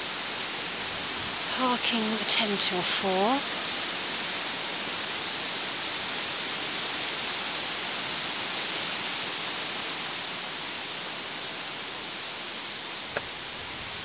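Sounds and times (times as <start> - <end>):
outdoor rushing hiss: 0.0 - 14.0.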